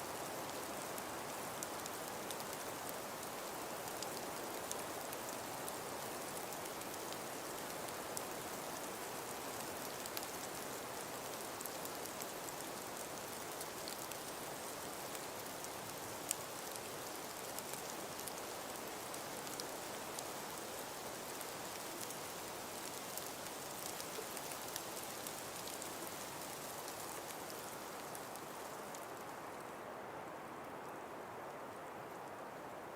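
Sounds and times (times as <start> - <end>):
snow ticking on surfaces: 0.0 - 29.7.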